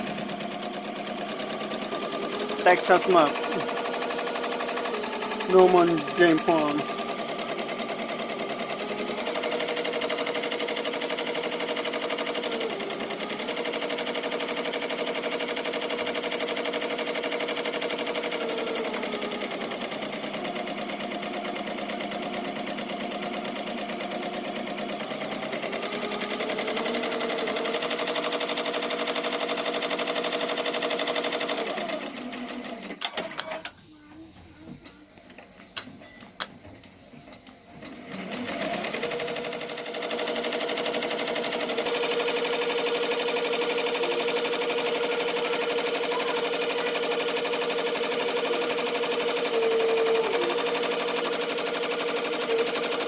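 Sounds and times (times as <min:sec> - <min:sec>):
machine motor running: 0:00.0 - 0:33.5, 0:37.2 - 0:53.0.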